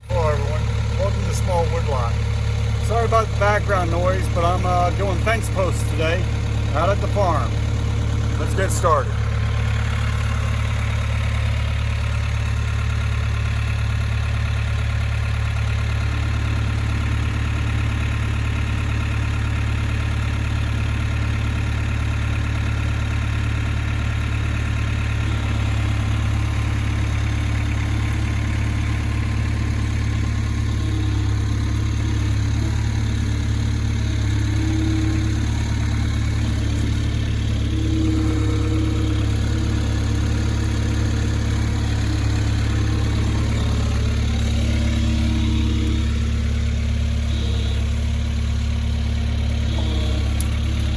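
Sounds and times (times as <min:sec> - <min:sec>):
skid steer engine running: 0:00.0 - 0:50.9.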